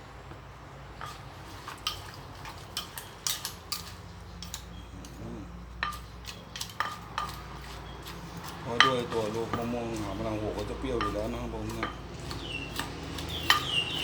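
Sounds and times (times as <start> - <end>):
spoon clinking against a dish: 1.0 - 14.0.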